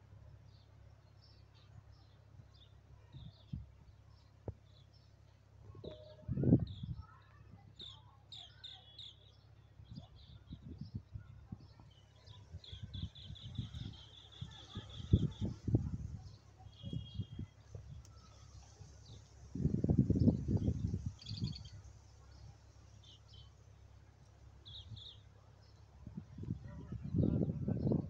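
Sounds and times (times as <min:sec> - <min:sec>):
small birds chirping: 0:00.5 - 0:28.0.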